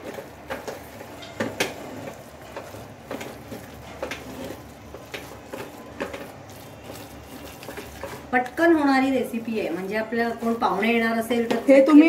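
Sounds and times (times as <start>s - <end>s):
spatula scraping steel pan: 0.0s - 12.0s.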